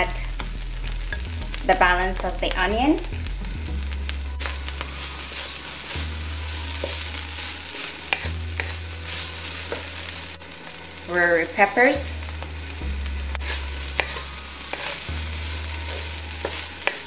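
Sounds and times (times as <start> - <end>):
steady low hum: 0.0 - 16.8
food sizzling in oil: 0.0 - 17.0
wooden spatula scraping a pan: 0.0 - 17.0.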